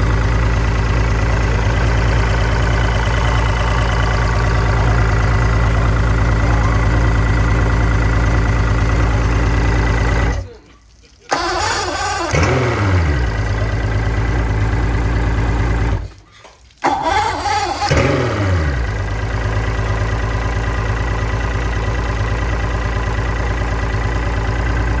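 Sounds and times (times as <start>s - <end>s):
outboard engine idling: 0.0s - 10.6s, 11.3s - 16.2s, 16.8s - 25.0s.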